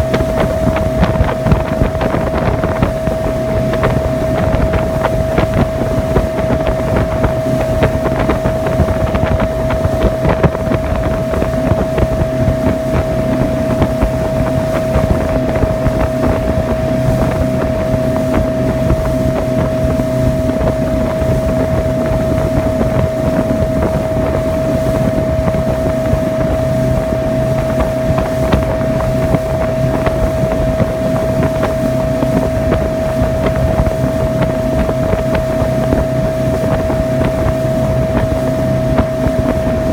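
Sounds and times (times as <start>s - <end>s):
motorboat engine whine: 0.0s - 39.9s
water rushing: 0.0s - 39.9s
wind on microphone: 0.0s - 39.9s.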